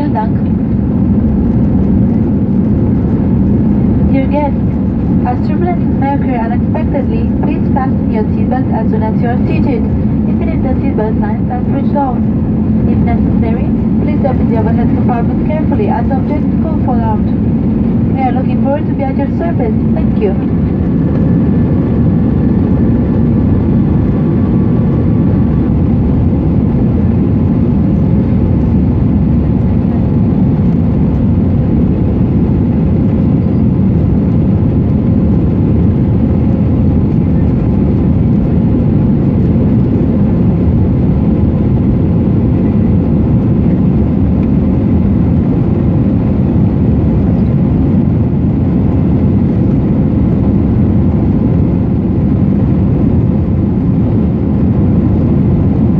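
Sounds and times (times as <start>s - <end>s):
airplane cabin engine roar: 0.0s - 55.9s.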